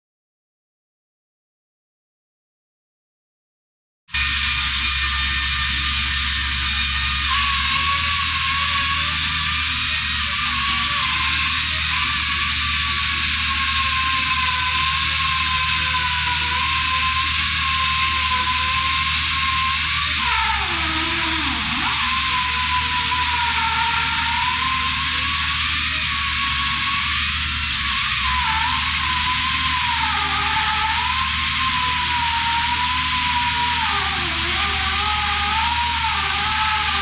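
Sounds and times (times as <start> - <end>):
pneumatic chainsaw cutting: 4.2 - 37.0.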